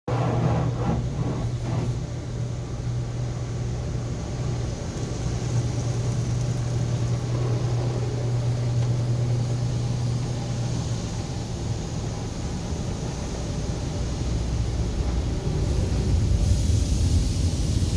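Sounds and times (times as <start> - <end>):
car wash machinery running: 0.1 - 17.9.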